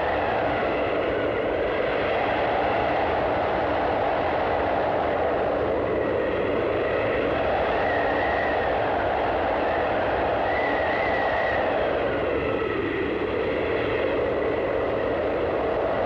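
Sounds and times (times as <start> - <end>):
strong wind blowing: 0.0 - 16.0
thin wind whistle: 0.0 - 16.0.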